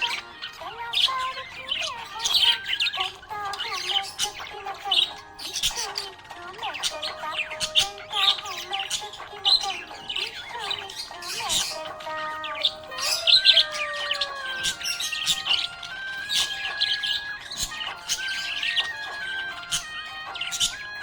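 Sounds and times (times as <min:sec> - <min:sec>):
budgerigar chirping and warbling: 0:00.0 - 0:21.0.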